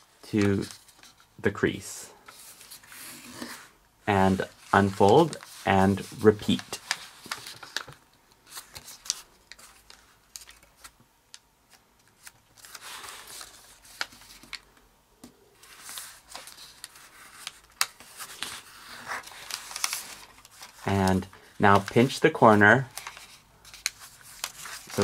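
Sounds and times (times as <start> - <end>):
paper rustling and crinkling: 0.0 - 1.4, 2.1 - 11.0, 11.7 - 14.7, 15.6 - 25.0.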